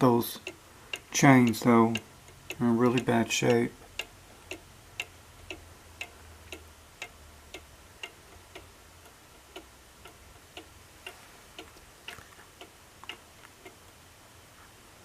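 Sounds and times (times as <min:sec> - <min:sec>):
cuckoo clock ticking: 0:00.0 - 0:14.0.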